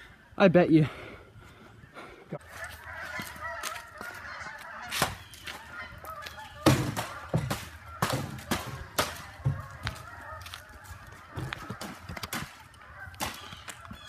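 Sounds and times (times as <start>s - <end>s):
chorus of animal calls: 1.7s - 14.0s.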